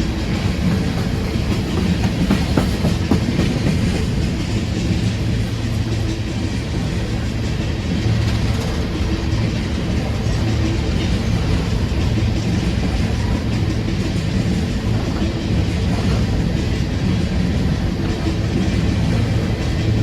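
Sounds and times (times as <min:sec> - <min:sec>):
constant low hum: 0:00.0 - 0:20.0
train passing with rumble: 0:00.0 - 0:20.0.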